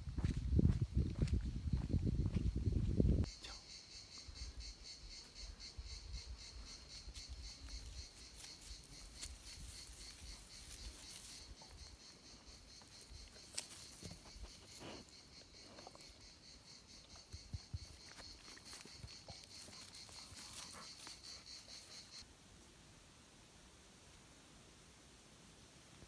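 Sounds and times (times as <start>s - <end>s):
insects chirring: 1.1s - 22.3s.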